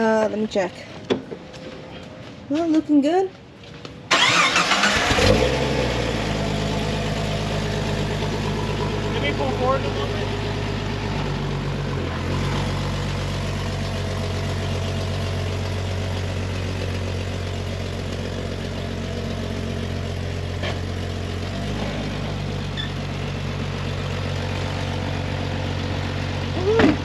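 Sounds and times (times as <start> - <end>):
car engine idling: 4.1 - 27.0.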